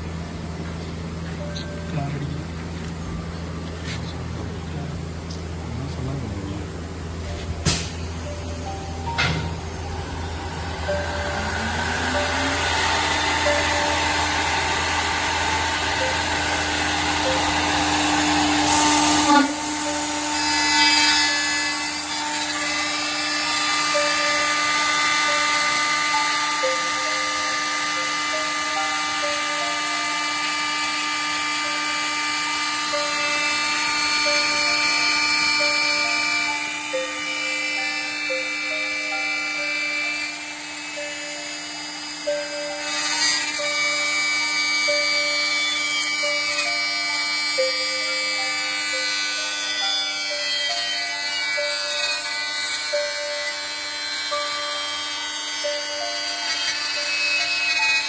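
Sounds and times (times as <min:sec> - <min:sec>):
servo motor tones: 0:00.0 - 0:58.0
spindle high whine: 0:00.0 - 0:58.0.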